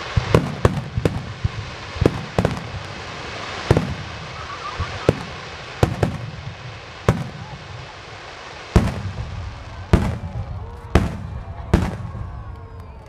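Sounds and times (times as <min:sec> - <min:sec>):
firework shells bursting: 0:00.0 - 0:08.0, 0:08.6 - 0:13.0.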